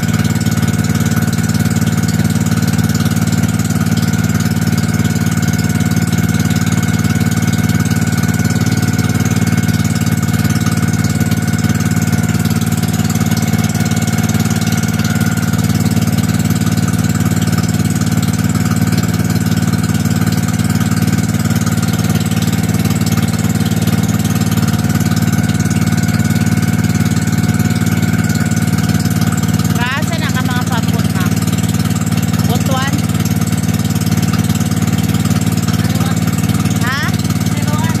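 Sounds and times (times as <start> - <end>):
boat engine running loudly: 0.0 - 38.0.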